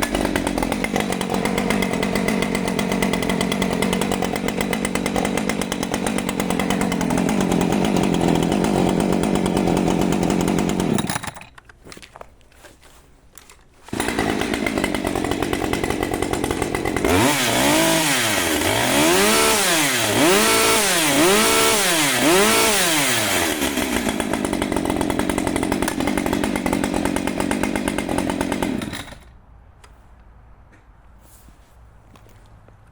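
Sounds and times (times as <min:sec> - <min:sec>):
chainsaw revving and idling: 0:00.0 - 0:11.4, 0:13.9 - 0:29.3.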